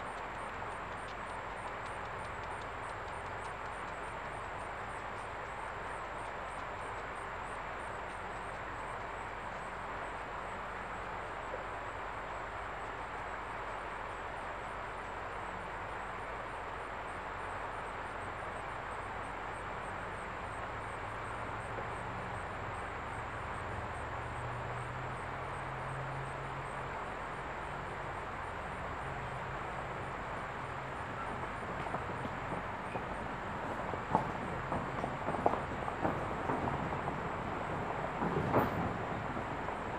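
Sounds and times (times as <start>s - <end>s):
distant diesel locomotive humming: 0.0s - 39.9s.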